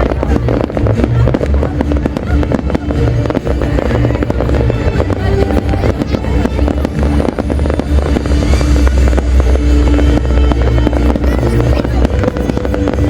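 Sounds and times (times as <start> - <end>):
fireworks bangs and crackles: 0.0 - 13.0
music: 0.0 - 13.0.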